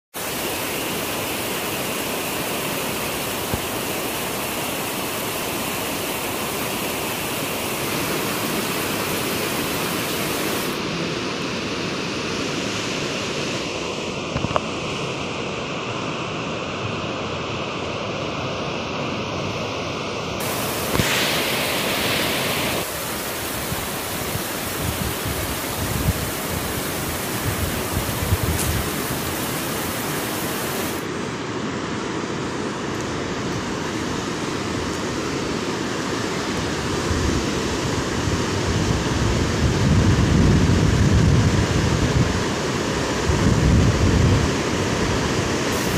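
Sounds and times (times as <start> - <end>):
river rushing over boulders: 0.2 - 15.0, 20.3 - 45.9.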